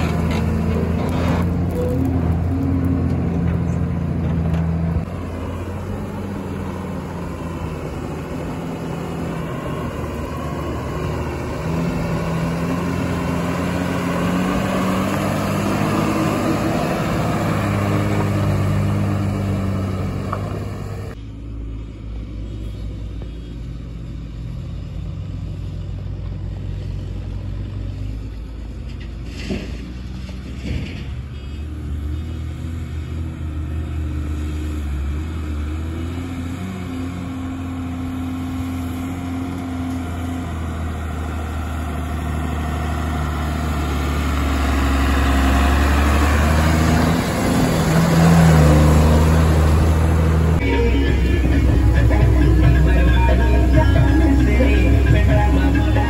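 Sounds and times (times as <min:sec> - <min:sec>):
diesel machinery engine working: 0:00.0 - 0:56.0.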